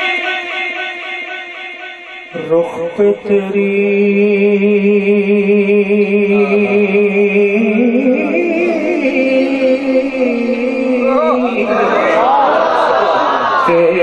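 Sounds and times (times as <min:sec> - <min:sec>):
man singing into a microphone: 0:00.0 - 0:12.0, 0:13.6 - 0:14.0.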